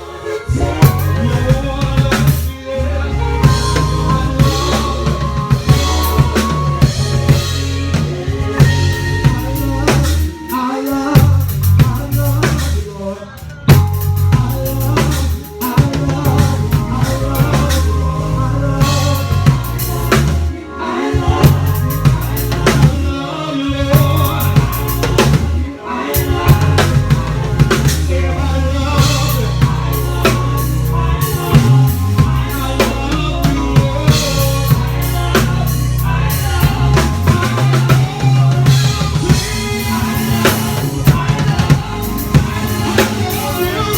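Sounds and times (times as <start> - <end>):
bass guitar lines: 0.0 - 13.0, 13.6 - 43.9
drum kit: 0.0 - 43.9
keyboard chords: 0.0 - 43.9.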